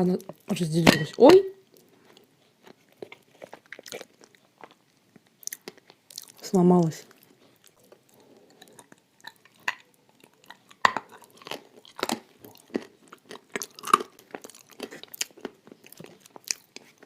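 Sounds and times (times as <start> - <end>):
clay crunching as chewed: 1.7 - 6.5, 7.1 - 17.0.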